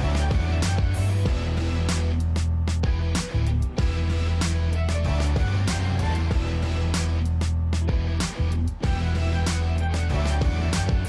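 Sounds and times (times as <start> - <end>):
background music with bass and beat: 0.0 - 11.0.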